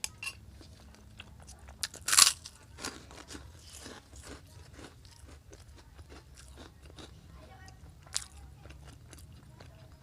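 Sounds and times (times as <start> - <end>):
person chewing crunchy food: 0.5 - 10.0.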